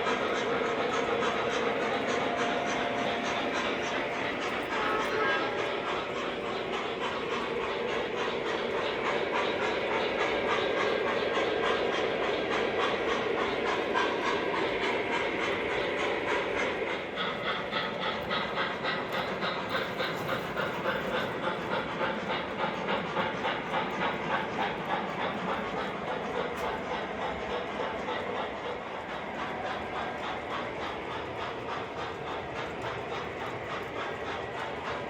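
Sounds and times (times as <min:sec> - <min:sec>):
model train wheels clicking on track: 0:00.0 - 0:35.0.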